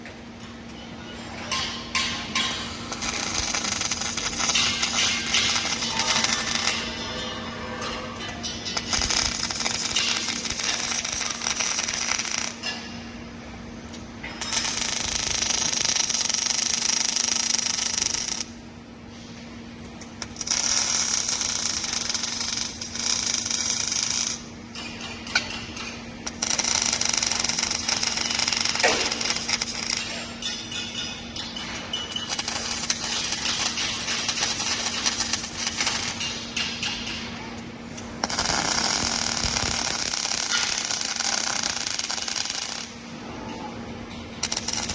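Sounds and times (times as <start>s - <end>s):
welding arc crackling and hissing: 1.5s - 13.0s, 13.9s - 18.6s, 19.9s - 43.0s, 44.3s - 44.9s.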